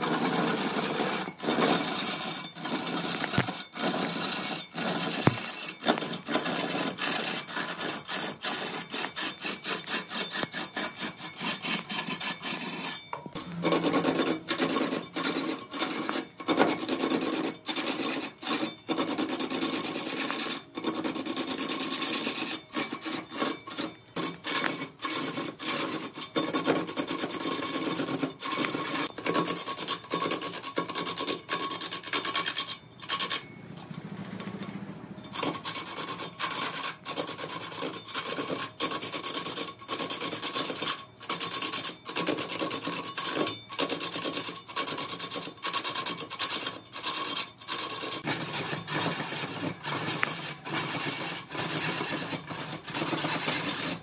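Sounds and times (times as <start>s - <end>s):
lathe tool scraping wood: 0.0s - 38.6s, 46.4s - 54.0s.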